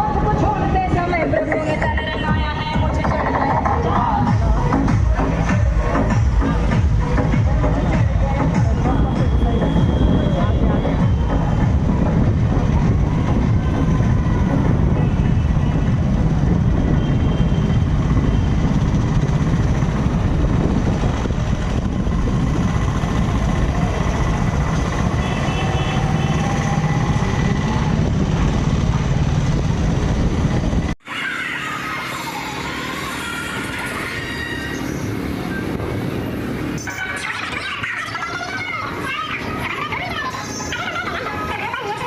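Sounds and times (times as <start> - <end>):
quiet street sound: 0.0 - 42.0
vehicle and road noise: 0.0 - 42.0.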